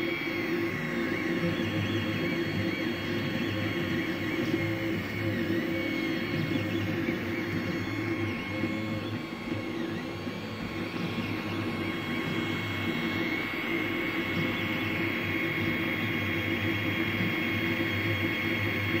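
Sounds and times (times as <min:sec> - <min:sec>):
cooling fans humming: 0:00.0 - 0:19.0
stepper motors whining: 0:00.0 - 0:19.0.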